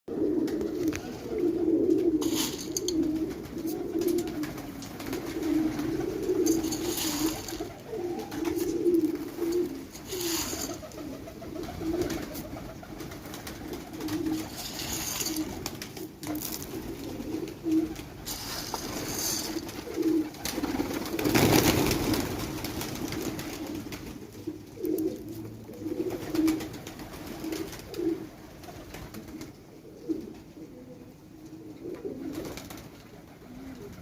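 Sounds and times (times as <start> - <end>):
pigeons cooing: 0.1 - 34.0.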